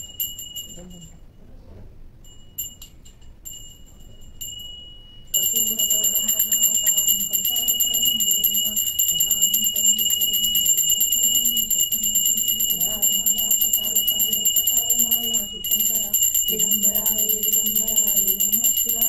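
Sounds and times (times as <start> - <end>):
hand bell ringing rapidly: 0.0 - 1.2, 2.2 - 19.0.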